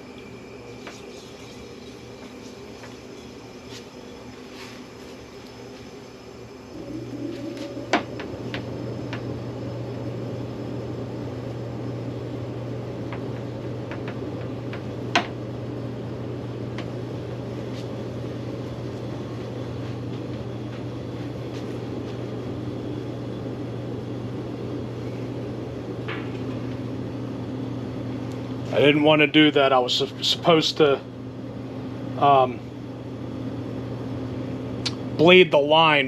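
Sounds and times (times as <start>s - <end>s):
small machine humming: 0.0s - 36.0s.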